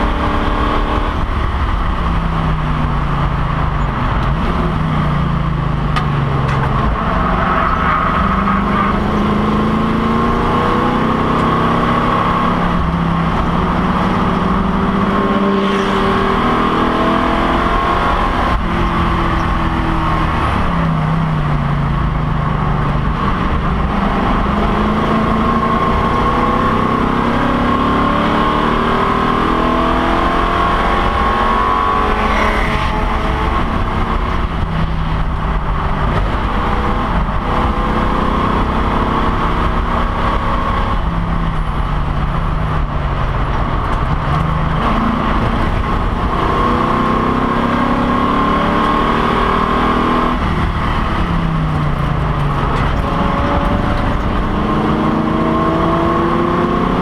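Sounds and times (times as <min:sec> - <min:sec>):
race car engine revving: 0:00.0 - 0:57.0
road and wind noise: 0:00.0 - 0:57.0.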